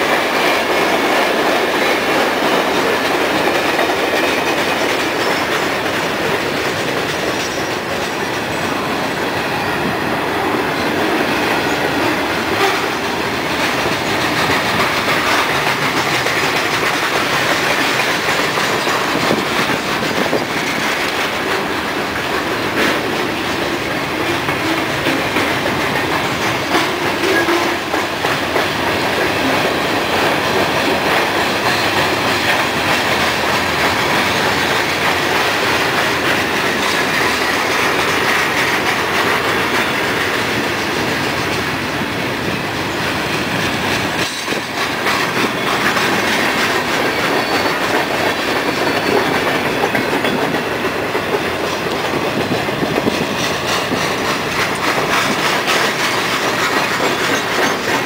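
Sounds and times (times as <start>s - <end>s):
freight train wheels rolling: 0.0s - 58.0s.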